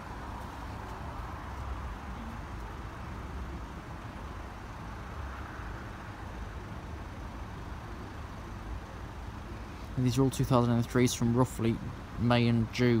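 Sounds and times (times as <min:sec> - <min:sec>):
road traffic idling: 0:00.0 - 0:13.0.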